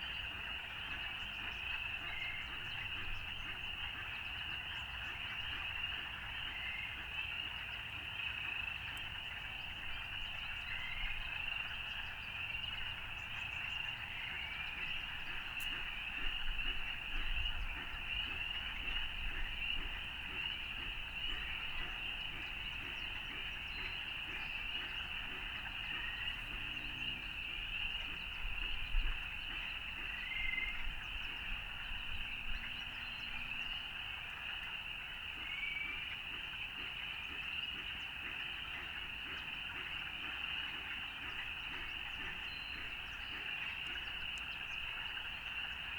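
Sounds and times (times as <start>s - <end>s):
chorus of frogs calling: 0.0s - 45.9s.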